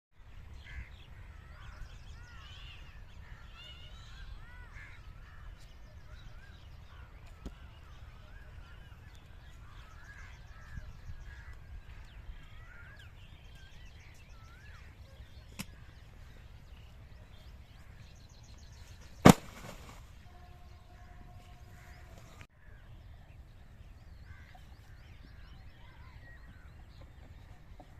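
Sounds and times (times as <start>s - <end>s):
birds warbling: 0.4s - 27.9s.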